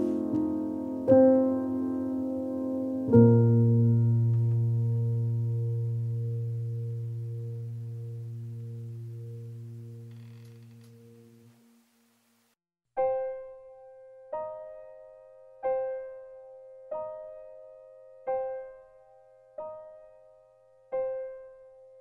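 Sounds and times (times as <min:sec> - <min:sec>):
soft piano notes: 0:00.0 - 0:11.9, 0:13.0 - 0:22.0.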